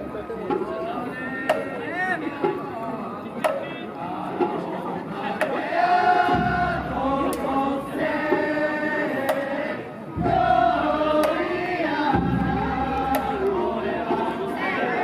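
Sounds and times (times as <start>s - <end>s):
crowd chanting: 0.2s - 15.0s.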